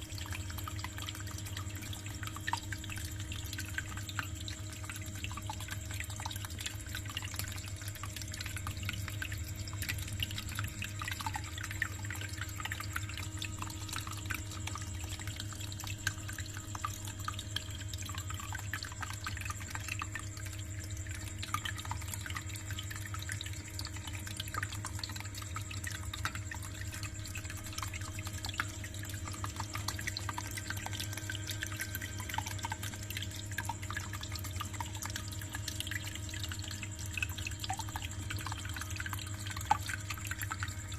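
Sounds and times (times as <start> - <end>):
water pump humming: 0.0 - 40.9
water trickling and dripping: 0.0 - 40.9.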